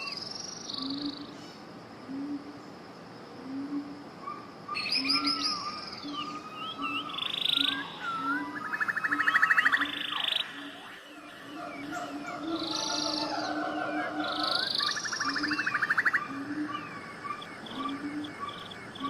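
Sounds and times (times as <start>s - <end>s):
background hiss: 0.0s - 19.0s
songbirds singing: 0.0s - 19.0s.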